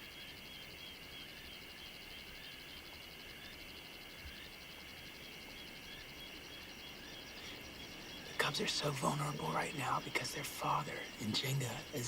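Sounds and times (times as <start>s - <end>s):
insects and frogs calling: 0.0s - 12.0s.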